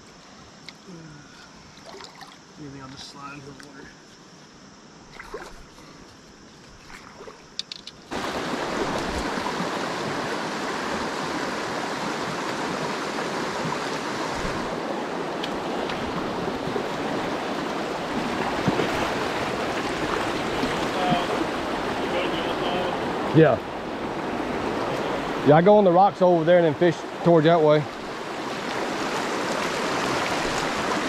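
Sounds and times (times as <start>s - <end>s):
creek water over rocks: 1.5s - 3.9s, 5.0s - 31.0s.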